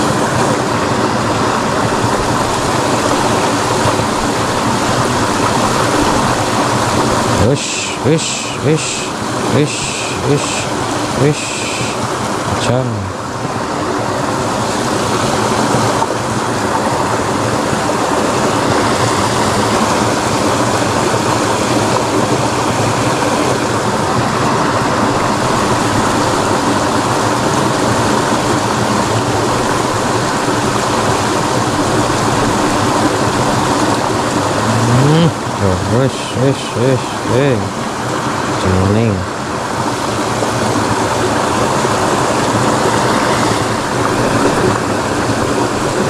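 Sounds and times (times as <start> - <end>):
water rushing along a ditch: 0.0 - 46.0.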